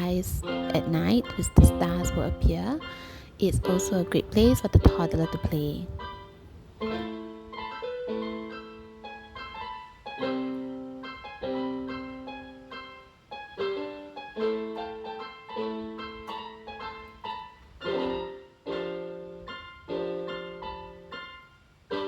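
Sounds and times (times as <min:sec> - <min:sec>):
slow gentle piano chords: 0:00.0 - 0:22.0.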